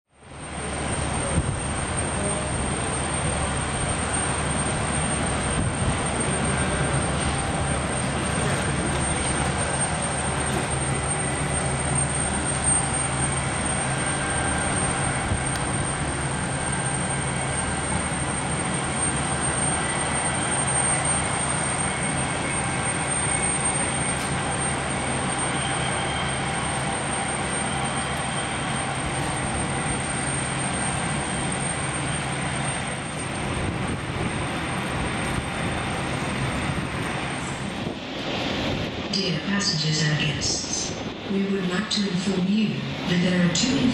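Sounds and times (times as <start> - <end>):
jet engines taxiing: 0.1 - 43.9
faint high whine: 0.2 - 38.0.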